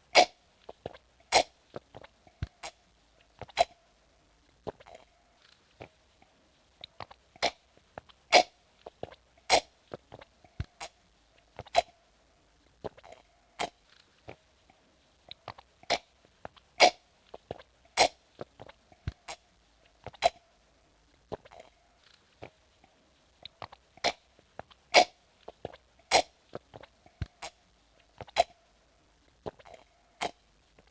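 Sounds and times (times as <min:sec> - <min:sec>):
person sipping and gulping water: 0:00.0 - 0:03.8, 0:04.6 - 0:05.2, 0:05.8 - 0:11.0, 0:12.8 - 0:20.5, 0:21.3 - 0:28.6, 0:29.4 - 0:30.9.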